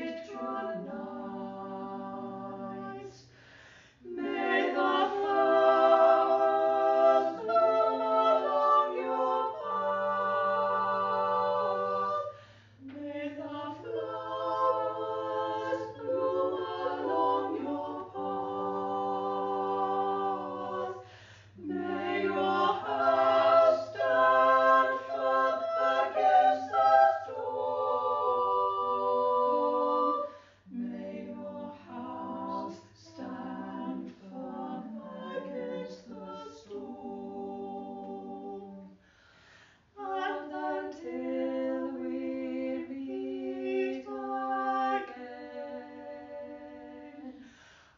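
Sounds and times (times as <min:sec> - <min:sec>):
choir singing: 0:00.0 - 0:39.0, 0:39.9 - 0:47.7.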